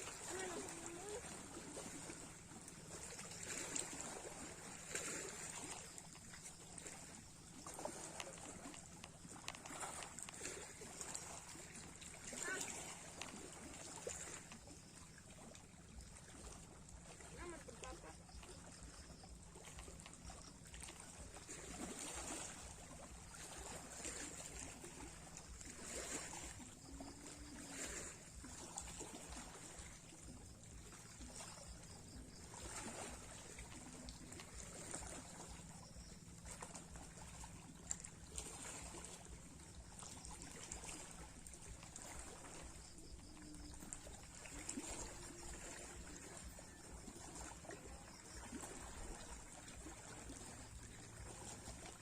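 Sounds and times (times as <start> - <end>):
sea waves lapping: 0.0 - 52.0.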